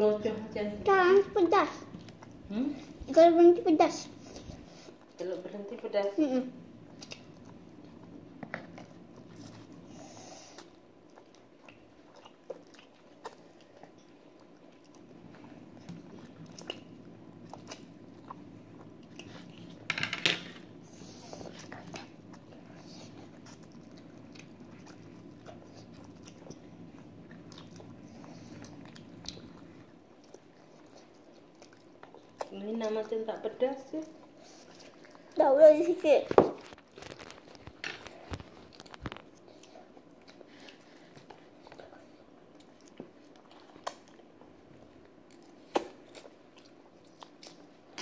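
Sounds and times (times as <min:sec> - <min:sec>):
children chewing: 0:00.0 - 0:19.9, 0:20.5 - 0:48.0.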